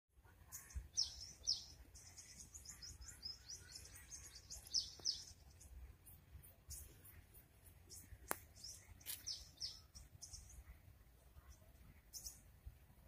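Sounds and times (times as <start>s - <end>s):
small birds chirping and twittering: 0.2s - 13.0s.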